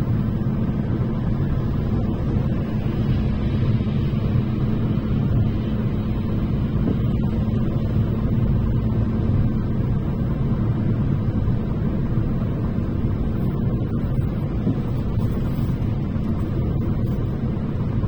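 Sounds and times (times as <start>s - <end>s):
car road and engine rumble: 0.0s - 18.0s
faint steady hum: 0.0s - 18.0s.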